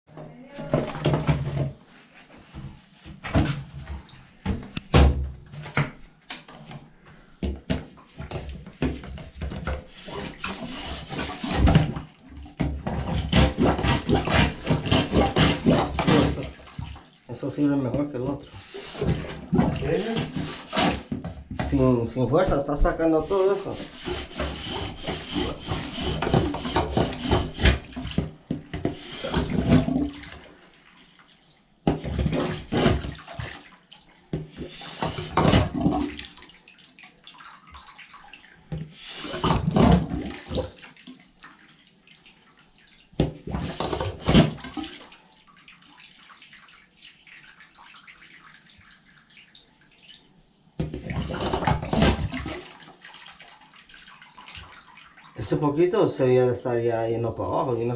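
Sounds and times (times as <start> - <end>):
water splashing in bathtub: 0.1 - 57.9.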